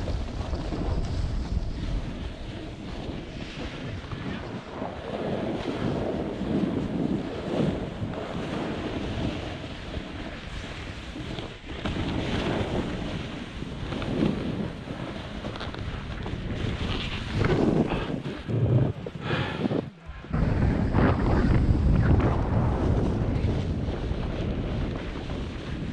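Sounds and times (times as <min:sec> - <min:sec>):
snowboard scraping snow: 0:00.0 - 0:25.9
wind on microphone: 0:00.0 - 0:25.9.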